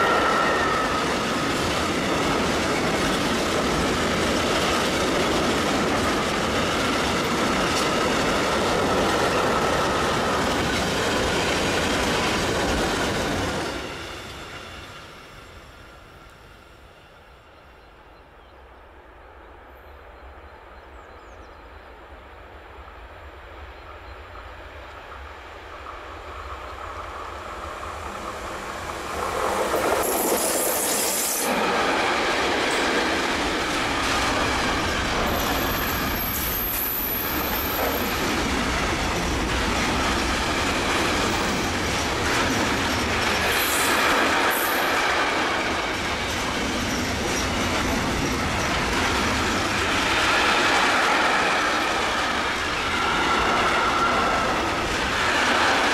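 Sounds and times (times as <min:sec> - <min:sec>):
train wheels rumbling on rails: 0:00.0 - 0:17.8, 0:18.5 - 0:55.9.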